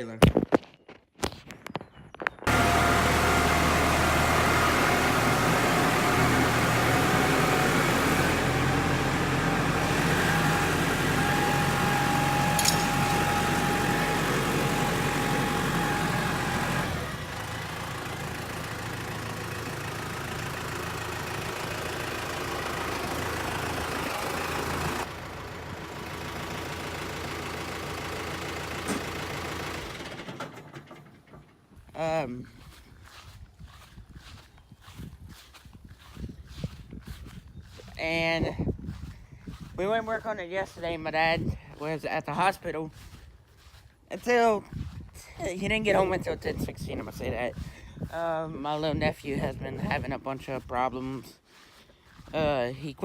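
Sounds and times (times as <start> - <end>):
vehicle engine running: 2.4 - 53.0.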